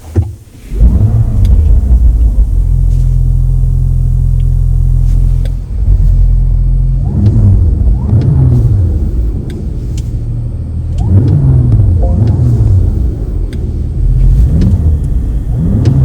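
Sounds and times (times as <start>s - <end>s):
car engine starting and idling: 0.0s - 16.0s
engine revving blips: 0.7s - 16.0s.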